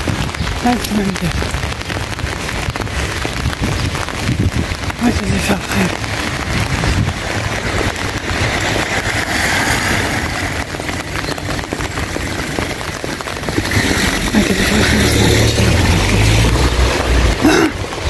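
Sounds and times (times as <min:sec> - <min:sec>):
rain pattering on an umbrella: 0:00.0 - 0:18.0.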